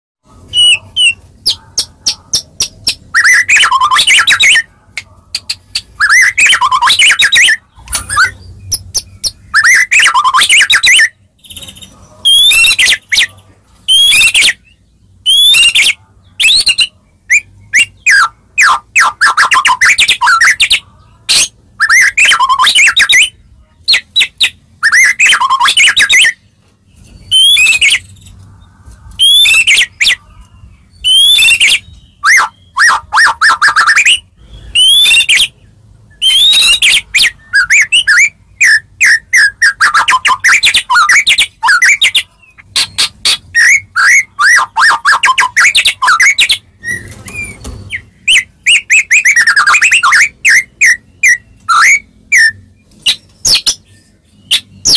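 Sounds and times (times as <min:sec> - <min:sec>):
bird singing whistles and trills: 0:00.5 - 0:04.7, 0:06.0 - 0:13.3, 0:13.9 - 0:26.4, 0:27.1 - 0:28.3, 0:29.2 - 0:30.2, 0:30.9 - 0:54.9.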